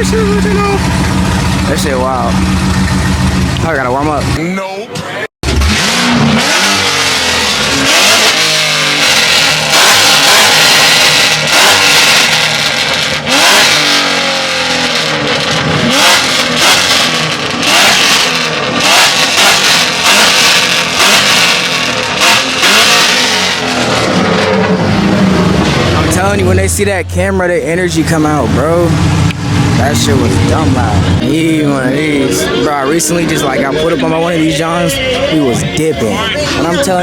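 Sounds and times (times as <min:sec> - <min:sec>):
car engine revving: 0:00.0 - 0:04.4, 0:05.4 - 0:37.0.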